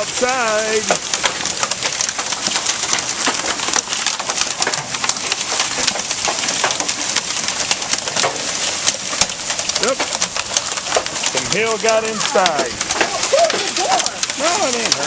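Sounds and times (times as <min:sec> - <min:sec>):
hail clattering: 0:00.0 - 0:15.0
rain: 0:00.0 - 0:15.0.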